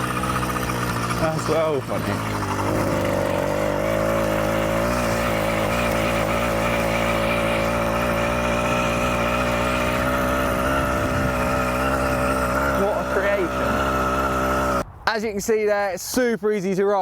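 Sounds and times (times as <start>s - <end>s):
two-stroke engine running: 0.0s - 14.8s.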